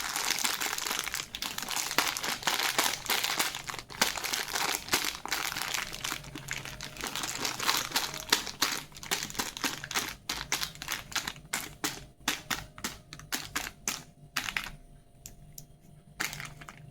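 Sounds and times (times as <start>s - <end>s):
plastic wrapper crinkling: 0.0s - 14.8s, 16.2s - 16.9s.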